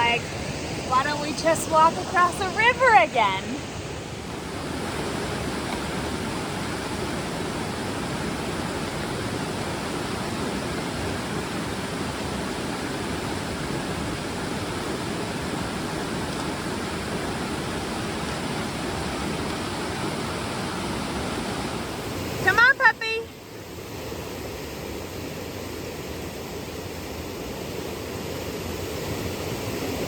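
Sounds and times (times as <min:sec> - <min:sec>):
fast-flowing river rushing: 0:00.0 - 0:30.0.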